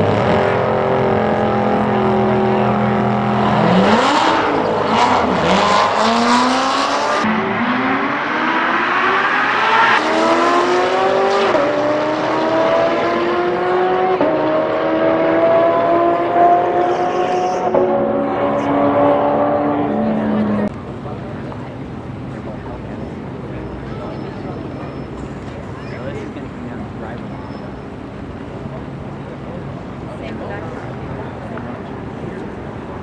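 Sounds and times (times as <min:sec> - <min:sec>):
car engines revving and accelerating: 0:00.0 - 0:33.0.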